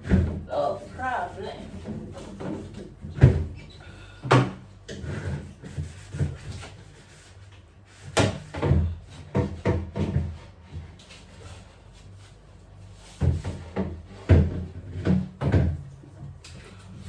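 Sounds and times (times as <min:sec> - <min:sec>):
rubbing and handling noise: 0:00.0 - 0:03.6, 0:04.7 - 0:15.1.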